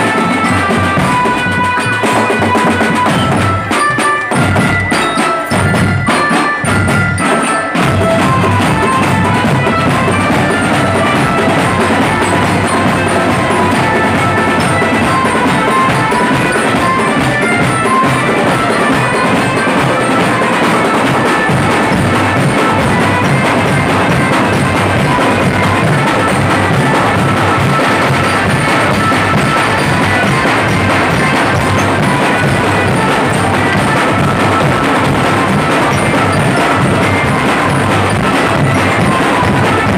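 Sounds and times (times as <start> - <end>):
mallet instruments melody: 0.0 - 39.9
marching drum band: 0.0 - 39.9.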